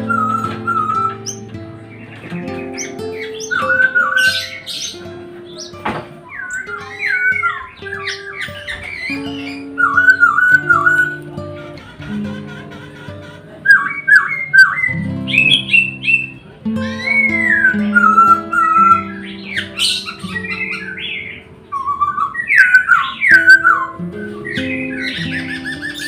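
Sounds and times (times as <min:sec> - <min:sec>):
soft instrumental music: 0:00.0 - 0:26.0
songbird singing: 0:00.0 - 0:26.0.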